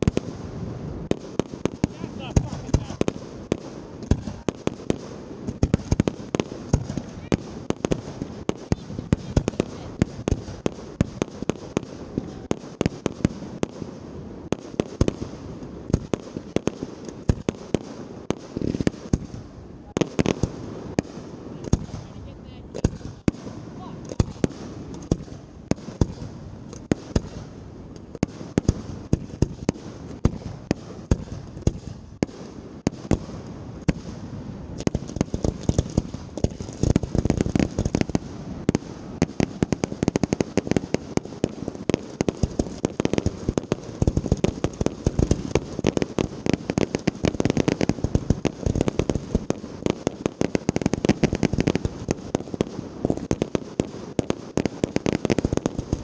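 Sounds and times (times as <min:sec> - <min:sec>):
fireworks popping and banging: 0:00.0 - 0:56.0.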